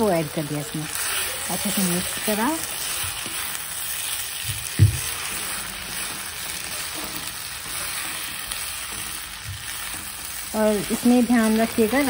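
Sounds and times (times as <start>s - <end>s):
rice sizzling in a pan: 0.0s - 12.0s
spatula stirring rice: 0.0s - 12.0s.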